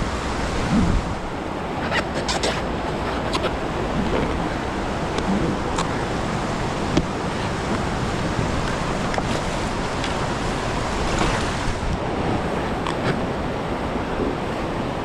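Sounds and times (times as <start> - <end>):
river water rushing: 0.0 - 15.0
water splashes: 0.0 - 15.0.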